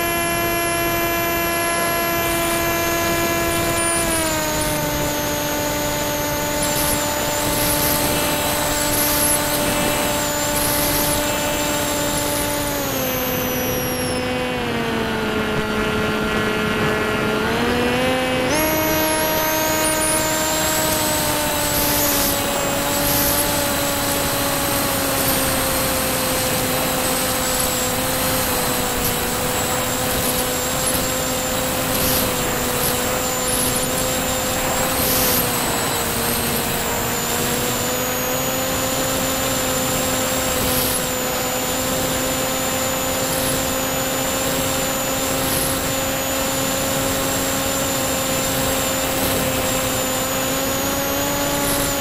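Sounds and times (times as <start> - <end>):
model plane propeller droning: 0.0 - 52.0.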